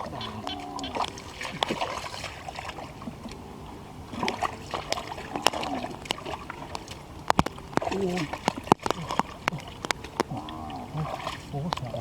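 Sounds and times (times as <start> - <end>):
water splashing in a pond: 0.0 - 12.0.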